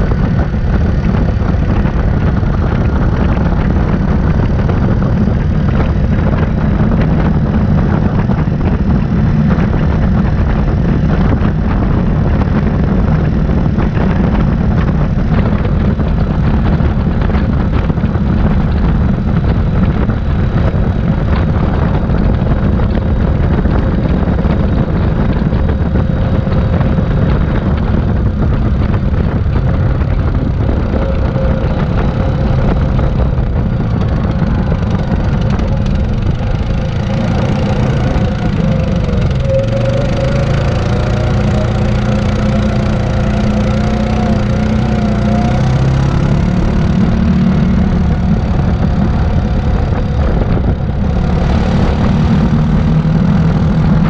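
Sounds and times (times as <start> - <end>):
quad bike engine running: 0.0 - 54.0
wind and trail noise rumble: 0.0 - 54.0.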